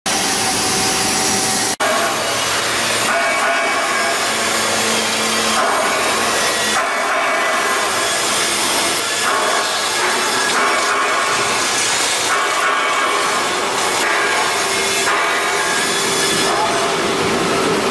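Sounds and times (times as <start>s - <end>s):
drilling machine on steel: 0.1s - 17.9s.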